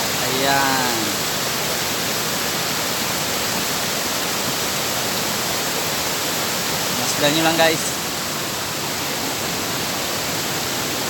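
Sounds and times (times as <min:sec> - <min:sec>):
waterfall falling and splashing: 0:00.0 - 0:11.0.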